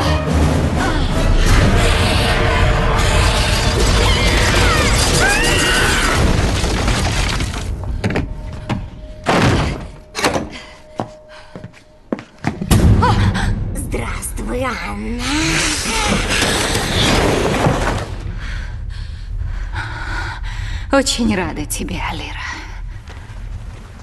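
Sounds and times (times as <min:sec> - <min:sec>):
film music: 0:00.0 - 0:24.0.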